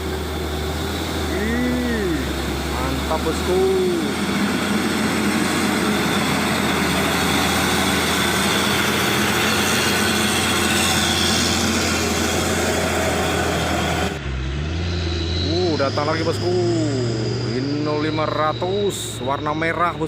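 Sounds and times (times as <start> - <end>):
diesel truck engine pulling hard: 0.0 - 20.0
road and tyre noise: 0.0 - 20.0.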